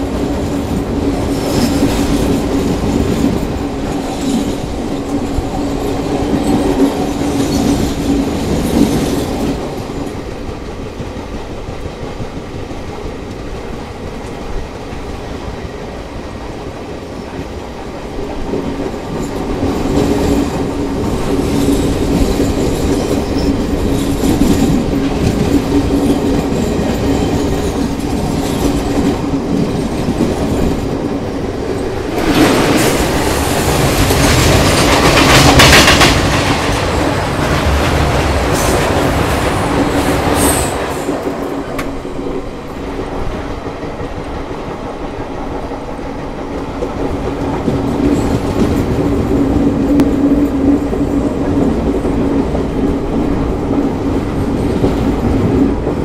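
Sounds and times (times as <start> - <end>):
train wheel clacks: 0.0 - 56.0
train wheels rumbling on rails: 0.0 - 56.0.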